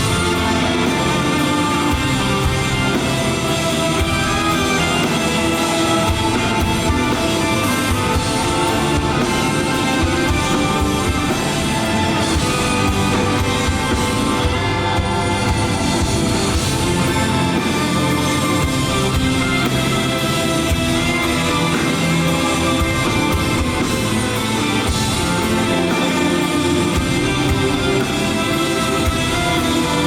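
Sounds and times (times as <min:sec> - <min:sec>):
drum beat: 0:00.0 - 0:30.0
electric guitars: 0:00.0 - 0:30.0.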